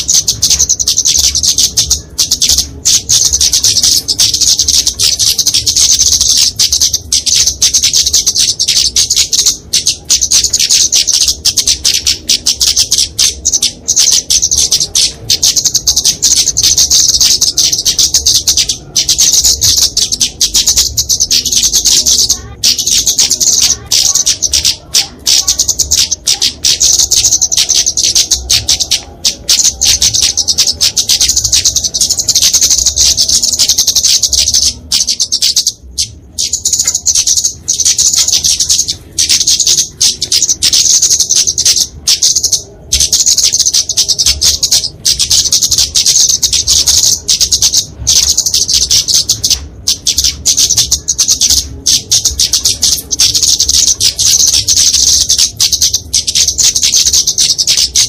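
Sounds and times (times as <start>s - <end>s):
bird chips and twitters: 0.0s - 58.0s.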